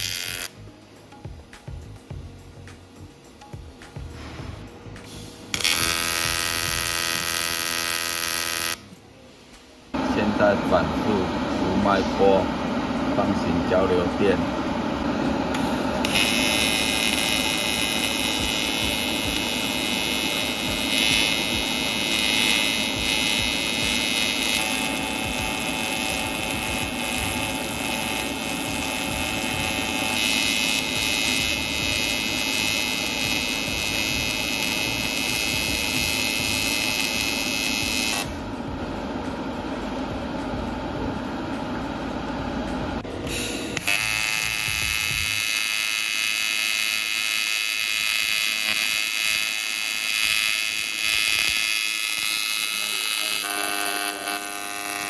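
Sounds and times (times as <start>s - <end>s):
welding arc buzzing: 0.0s - 0.7s, 1.5s - 9.0s, 9.9s - 38.8s, 43.0s - 55.0s.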